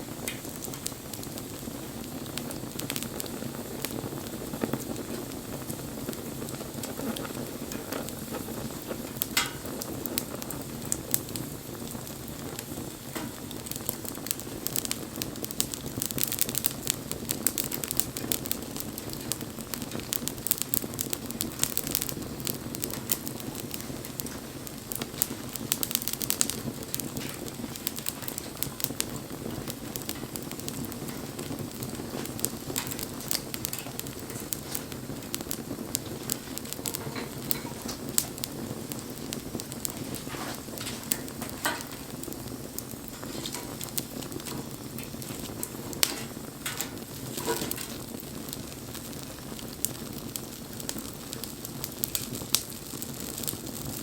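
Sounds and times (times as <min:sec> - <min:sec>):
bonfire flame rushing: 0:00.0 - 0:54.0
burning wood crackling and popping: 0:00.0 - 0:54.0.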